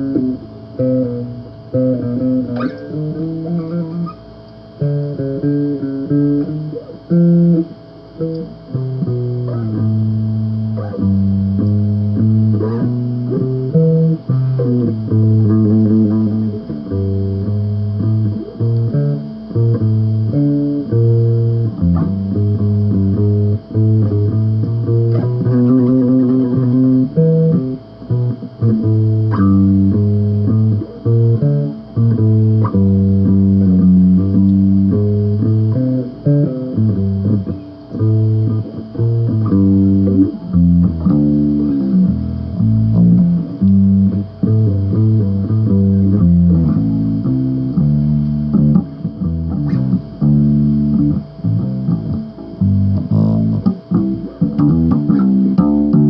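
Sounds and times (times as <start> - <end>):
bass guitar riff: 0.0 - 56.0.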